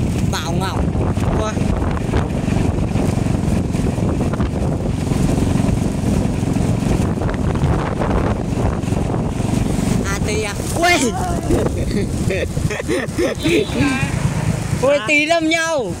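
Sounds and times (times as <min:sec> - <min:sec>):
motorbike rumble and road noise: 0:00.0 - 0:16.0
wind rushing over microphone: 0:00.0 - 0:16.0.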